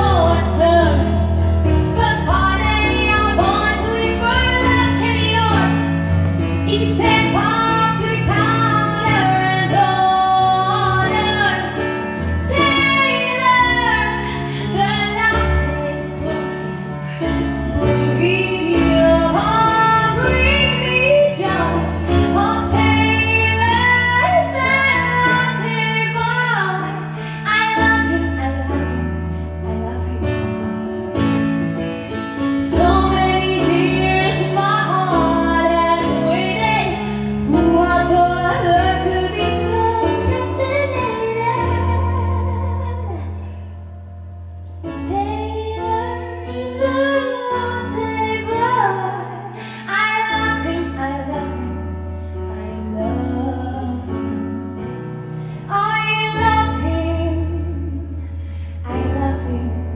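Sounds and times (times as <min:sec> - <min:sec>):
woman singing into a microphone: 0:00.0 - 0:30.8, 0:32.6 - 0:43.8, 0:44.9 - 0:59.9.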